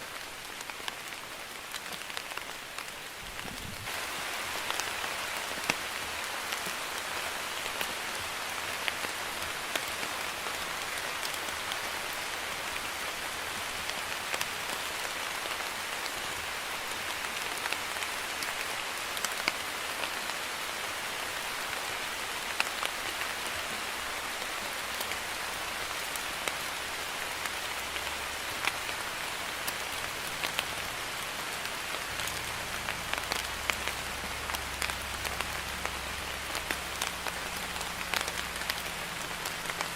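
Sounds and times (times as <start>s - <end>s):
light rain hiss: 0.0s - 39.9s
rain drops ticking: 0.0s - 39.9s.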